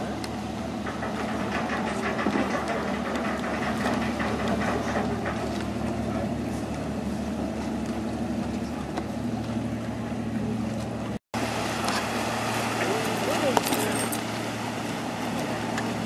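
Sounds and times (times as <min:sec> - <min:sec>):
ship engines humming: 0:00.0 - 0:16.0.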